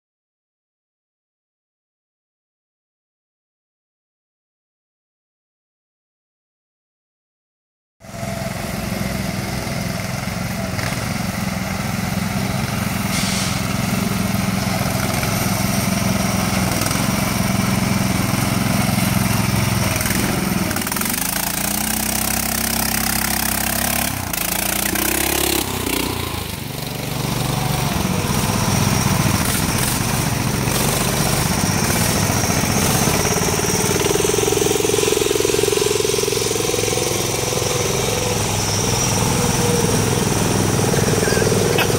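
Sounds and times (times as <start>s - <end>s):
lawn tractor engines running hard: 8.0s - 41.9s.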